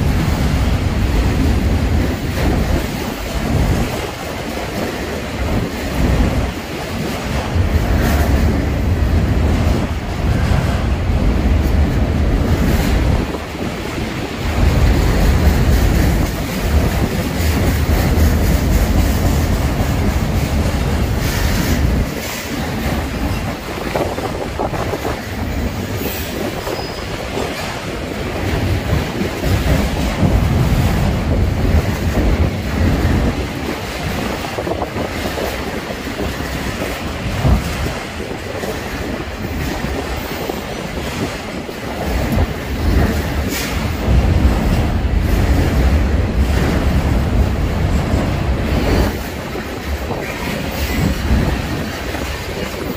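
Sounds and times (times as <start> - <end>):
freight train rumbling past: 0.0 - 52.9
wheels clicking over rail joints: 0.0 - 52.9.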